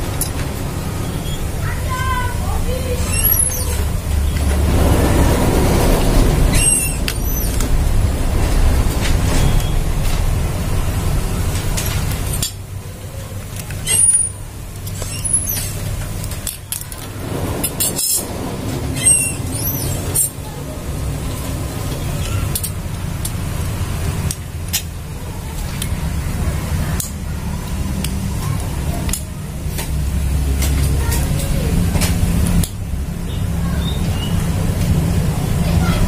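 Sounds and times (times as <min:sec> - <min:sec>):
steady low rumble: 0:00.0 - 0:13.6, 0:15.8 - 0:36.0.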